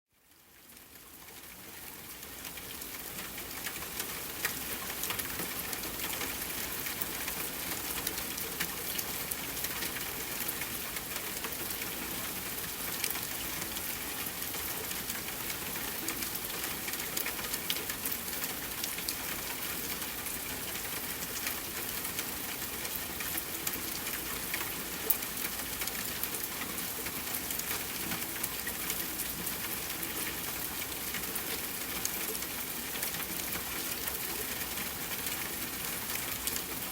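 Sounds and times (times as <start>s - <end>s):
steady rain falling: 0.1s - 36.9s.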